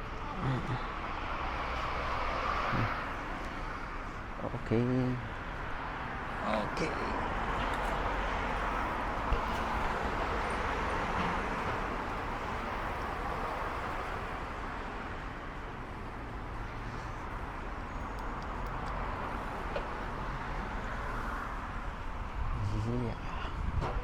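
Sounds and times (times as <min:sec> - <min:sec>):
vehicle travel noise: 0:00.0 - 0:24.0.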